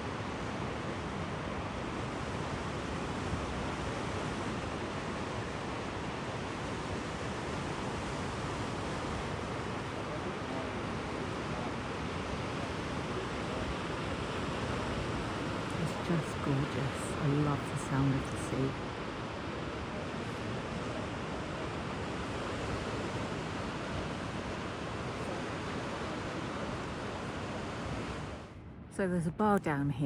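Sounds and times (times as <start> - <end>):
sea waves washing in: 0.0 - 28.6.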